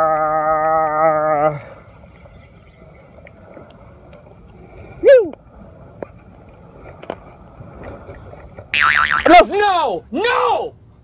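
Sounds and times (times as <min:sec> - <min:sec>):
wind and water hiss: 0:00.0 - 0:11.0.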